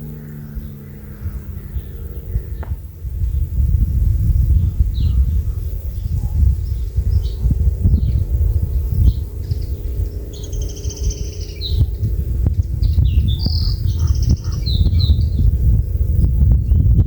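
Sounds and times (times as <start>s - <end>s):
songbird trilling: 0.0s - 2.8s, 4.2s - 15.6s
constant low rumble: 0.0s - 17.0s.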